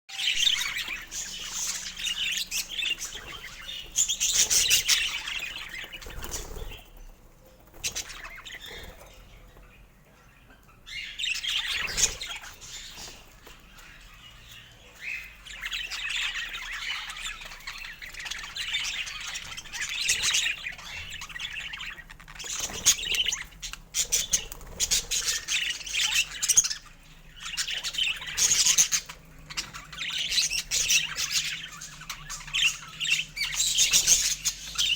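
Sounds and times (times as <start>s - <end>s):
budgerigars chattering: 0.2s - 7.0s, 10.3s - 34.9s.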